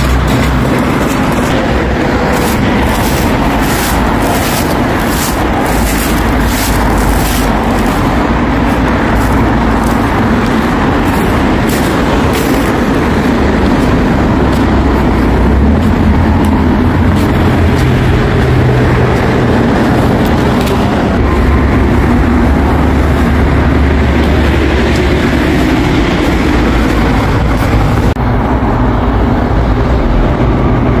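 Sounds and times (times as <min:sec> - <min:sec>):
subway train rumbling on rails: 0:00.0 - 0:31.0.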